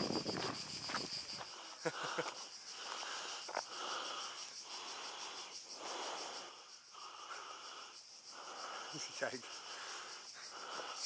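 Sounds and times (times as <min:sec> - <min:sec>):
insects chirring: 0:00.0 - 0:11.0
person breathing heavily: 0:01.3 - 0:11.0.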